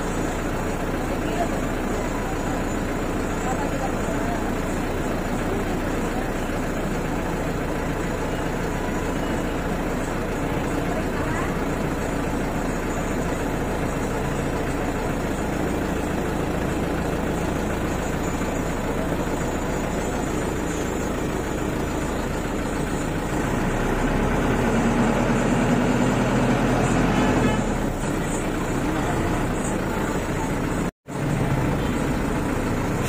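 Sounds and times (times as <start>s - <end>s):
diesel bus engine drone: 0.0s - 33.0s
vehicle engines idling in traffic: 0.0s - 33.0s.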